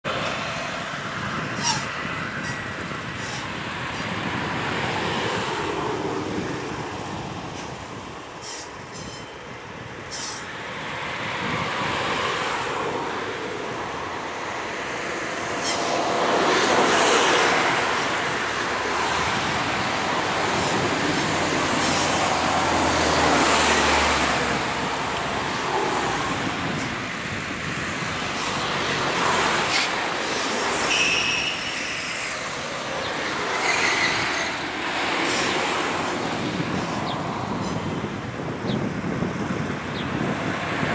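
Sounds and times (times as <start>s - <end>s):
road traffic noise: 0.0s - 40.9s
distant diesel locomotive: 0.1s - 38.5s.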